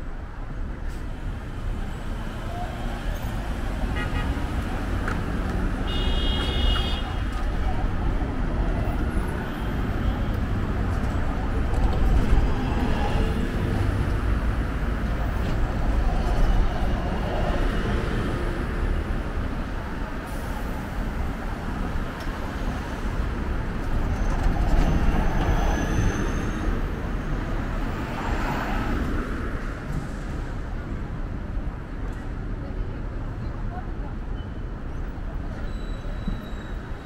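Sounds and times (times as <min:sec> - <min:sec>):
cars passing: 0:00.7 - 0:31.4.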